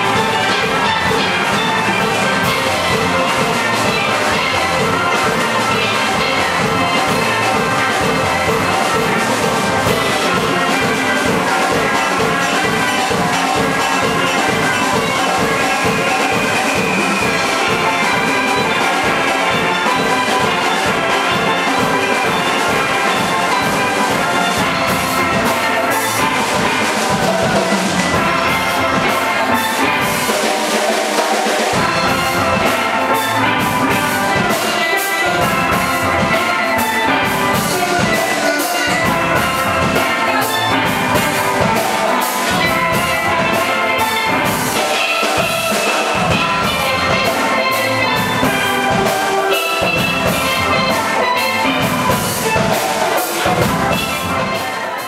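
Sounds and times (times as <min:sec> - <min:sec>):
percussion beat: 0:00.0 - 0:55.0
steel drum band playing: 0:00.0 - 0:55.0.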